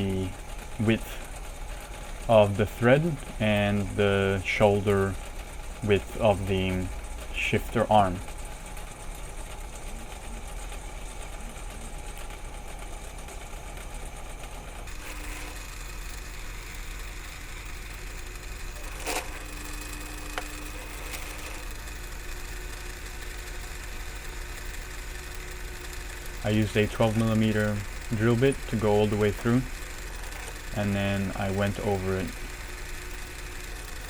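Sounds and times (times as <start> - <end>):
drill press drilling into steel: 0.0 - 34.0.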